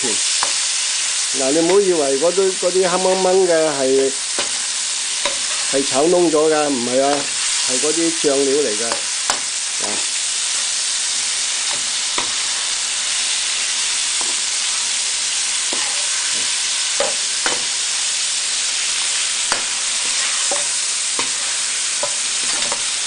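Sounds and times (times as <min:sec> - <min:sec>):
food sizzling in a wok: 0:00.0 - 0:23.0
spatula scraping wok: 0:00.0 - 0:23.0.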